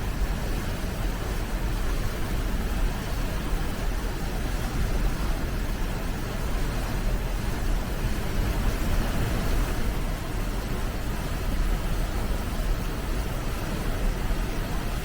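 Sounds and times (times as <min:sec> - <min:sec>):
rushing water roar: 0:00.0 - 0:15.0.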